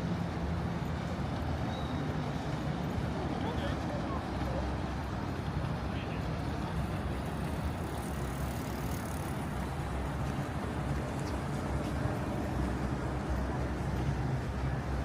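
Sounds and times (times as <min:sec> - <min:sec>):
wind and water hiss: 0:00.0 - 0:15.0.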